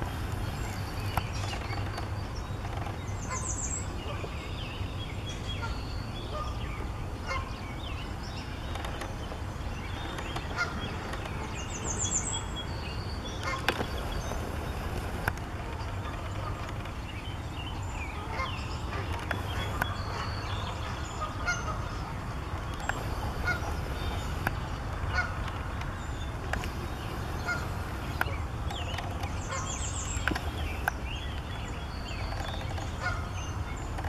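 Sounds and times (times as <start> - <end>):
birds chirping: 0.0 - 34.0
steady low rumble: 0.0 - 34.0.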